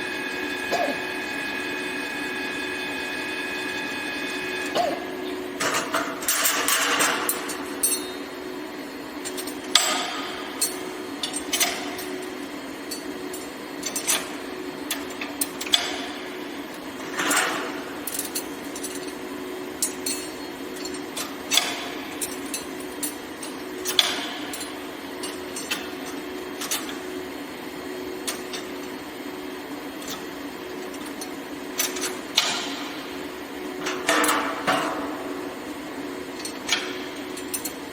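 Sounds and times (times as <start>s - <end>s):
welding machinery humming: 0.0s - 37.9s.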